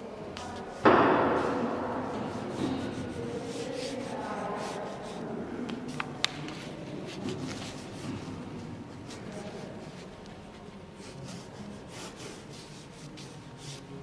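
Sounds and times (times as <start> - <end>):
pencil scratching on paper: 0.4 - 5.3, 5.9 - 14.0.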